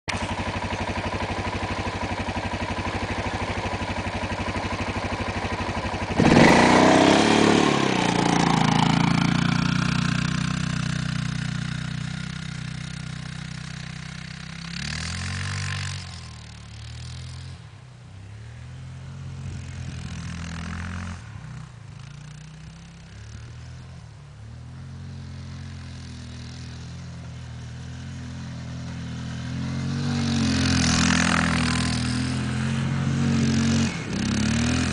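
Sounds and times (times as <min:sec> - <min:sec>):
quad engine revving: 0:00.1 - 0:17.7, 0:18.3 - 0:34.9.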